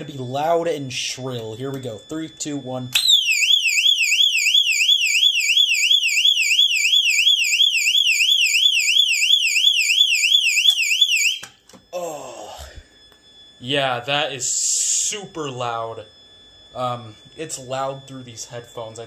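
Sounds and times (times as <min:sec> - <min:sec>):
fire alarm warble tone: 0:00.0 - 0:19.0.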